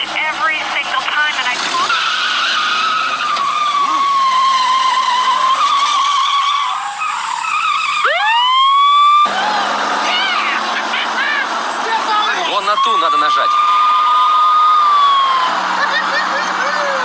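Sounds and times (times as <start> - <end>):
car tyres screeching: 0.0 - 17.0
police siren wailing: 0.0 - 17.0.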